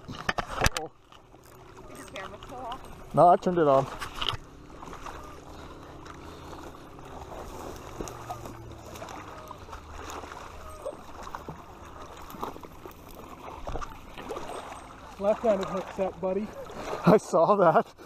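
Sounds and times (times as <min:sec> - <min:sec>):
water lapping at shore: 0:00.0 - 0:18.0.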